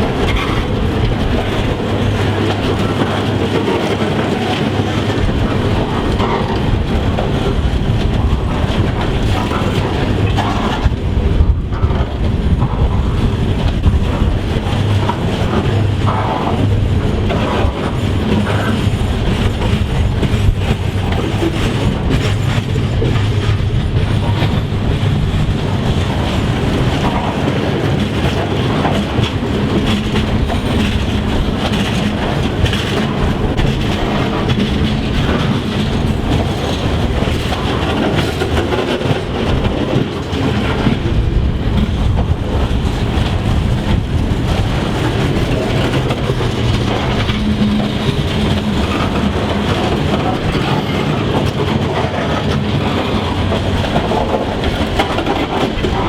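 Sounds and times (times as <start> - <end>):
train rumbling past: 0.0 - 56.0
train wheels clattering over rails: 0.0 - 56.0.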